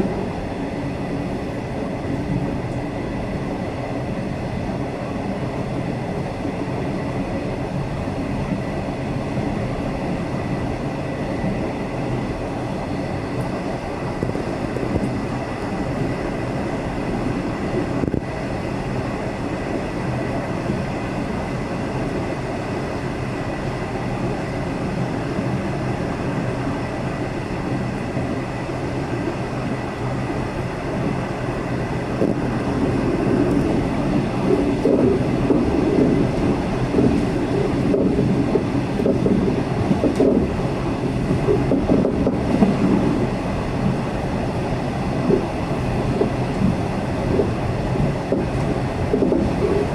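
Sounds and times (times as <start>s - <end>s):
train wheels on rails: 0.0s - 49.9s.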